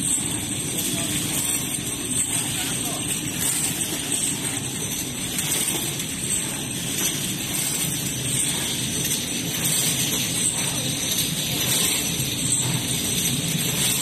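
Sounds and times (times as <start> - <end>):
gas burner flames hissing: 0.0 - 14.0
machine mechanism running: 0.0 - 14.0.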